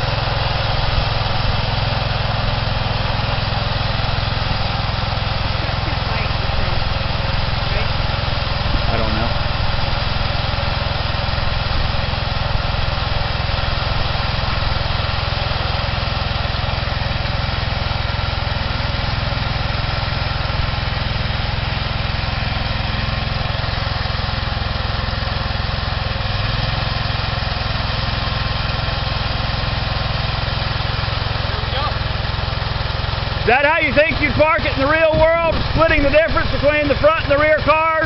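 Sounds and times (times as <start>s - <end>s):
small tractor engine running: 0.0s - 38.0s.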